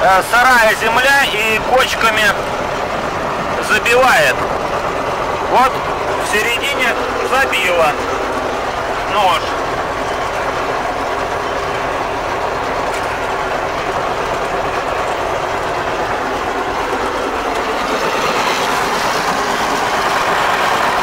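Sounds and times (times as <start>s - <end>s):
windrower mowing mechanical clatter: 0.0s - 21.0s.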